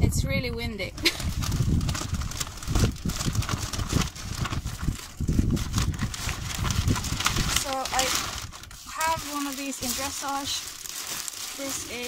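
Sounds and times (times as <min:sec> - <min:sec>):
wind buffeting microphone: 0:00.0 - 0:12.0
plastic packaging crinkling: 0:01.0 - 0:12.0.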